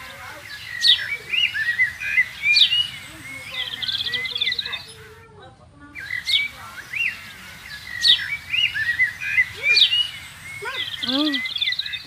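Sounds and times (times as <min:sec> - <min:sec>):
bird whistles sweeping downward: 0:00.0 - 0:04.9, 0:06.0 - 0:12.0
birds wavering chirps: 0:00.0 - 0:12.0.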